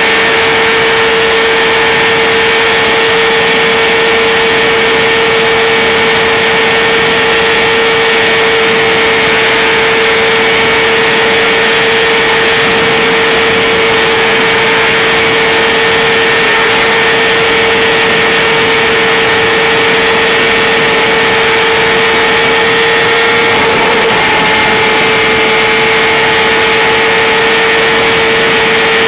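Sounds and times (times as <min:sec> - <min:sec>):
motorcycle engine at high revs: 0:00.0 - 0:29.0
wind rush: 0:00.0 - 0:29.0.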